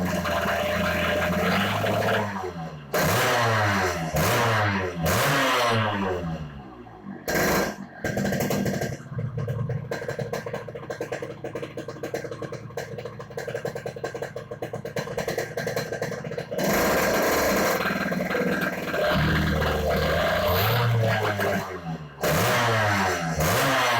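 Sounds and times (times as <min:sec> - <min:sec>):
two-stroke motorcycle engine revving: 0:00.0 - 0:23.9.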